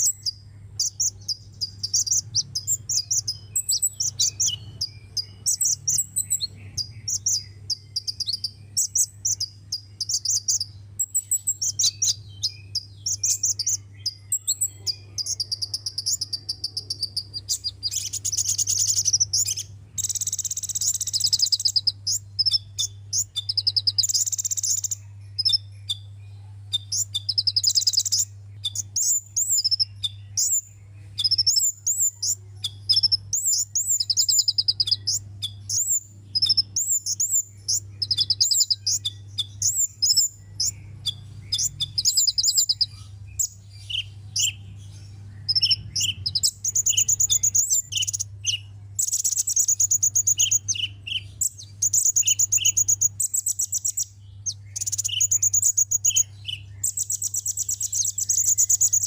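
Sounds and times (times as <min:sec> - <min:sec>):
bird chirping and trilling: 0:00.0 - 0:59.0
steady low hum: 0:00.0 - 0:59.0.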